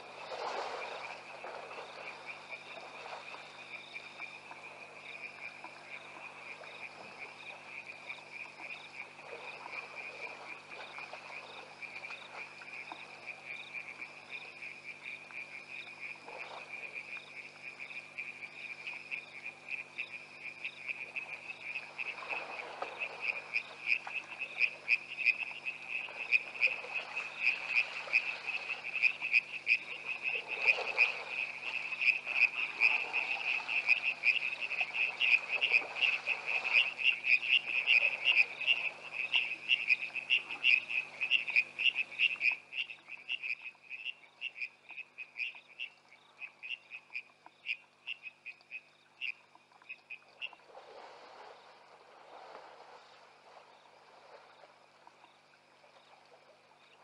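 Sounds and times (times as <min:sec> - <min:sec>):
frogs trilling: 0:00.7 - 0:50.7.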